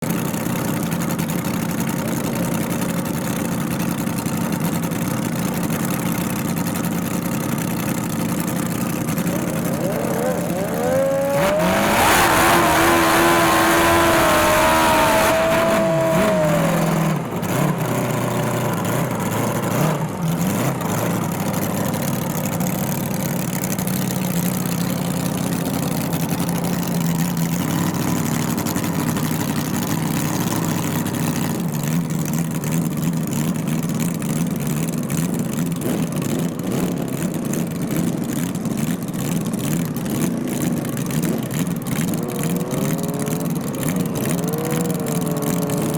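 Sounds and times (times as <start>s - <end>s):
drag racing engine: 0.0s - 45.9s.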